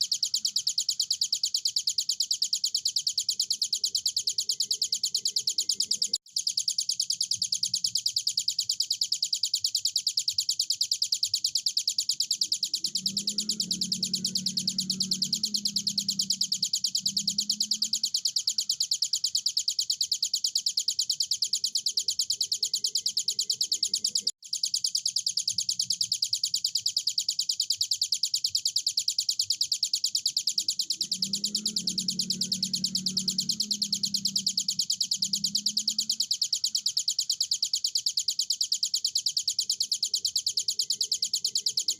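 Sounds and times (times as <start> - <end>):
bird singing fast trill: 0.0 - 41.9.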